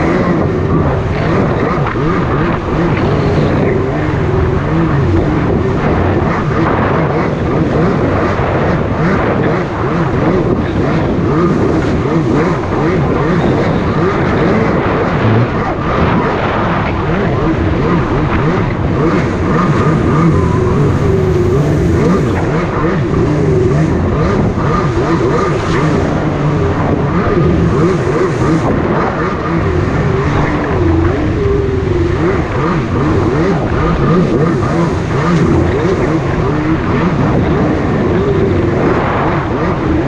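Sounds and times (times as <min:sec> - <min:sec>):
jet ski engine running: 0:00.0 - 0:40.0
steady rushing noise: 0:00.0 - 0:40.0.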